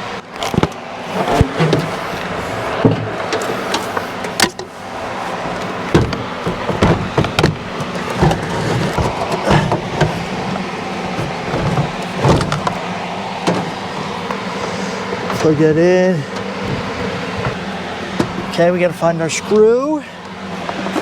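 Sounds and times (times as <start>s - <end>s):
fan running: 0.0s - 21.0s
knocks and clicks of panel parts: 0.4s - 15.7s, 16.3s - 18.6s.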